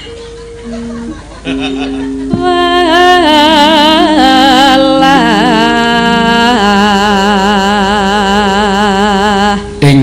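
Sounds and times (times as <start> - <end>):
gamelan sustained tones: 0.0 - 8.9
person singing with vibrato: 0.0 - 10.0.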